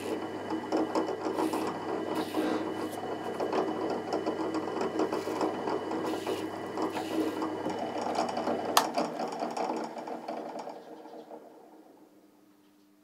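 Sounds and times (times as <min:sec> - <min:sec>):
spindle winding down: 0:00.0 - 0:12.1
drill press motor running: 0:00.0 - 0:12.2.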